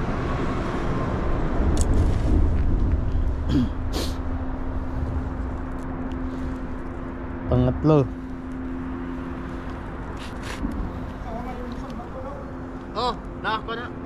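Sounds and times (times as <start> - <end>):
road traffic rumbling: 0.0 - 14.0
steady low hum: 0.0 - 14.0.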